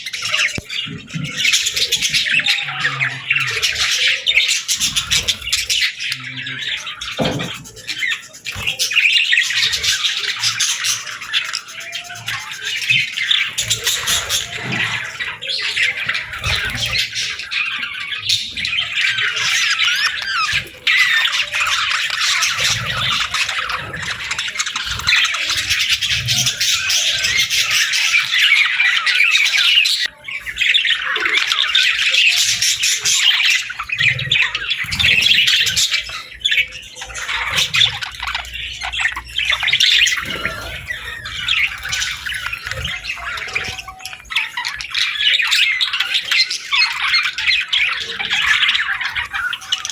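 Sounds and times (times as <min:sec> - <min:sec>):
budgerigars chattering and chirping: 0:00.0 - 0:49.9.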